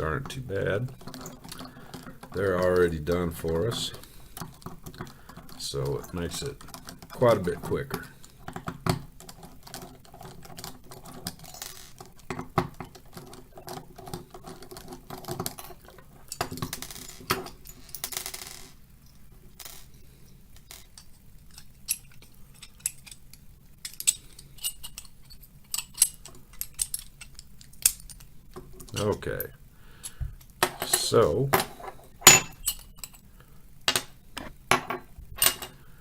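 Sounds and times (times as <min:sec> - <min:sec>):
small metal parts clinking: 0:00.7 - 0:33.3.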